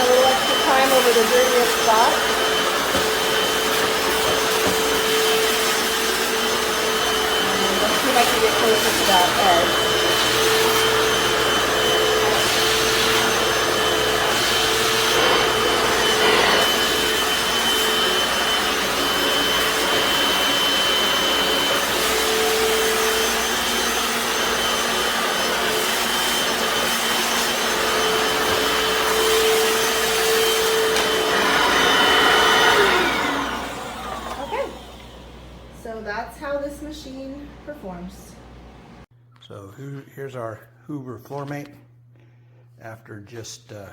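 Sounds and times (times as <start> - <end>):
floor cleaner motor and brushes: 0.0 - 36.6.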